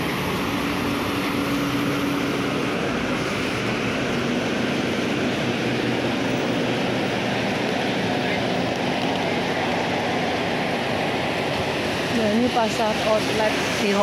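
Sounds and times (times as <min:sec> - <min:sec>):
traffic on a wet road: 0:00.0 - 0:14.0.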